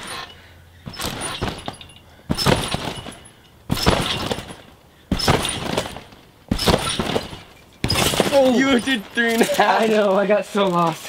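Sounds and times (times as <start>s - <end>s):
trampoline landings ringing springs: 0.0s - 10.0s.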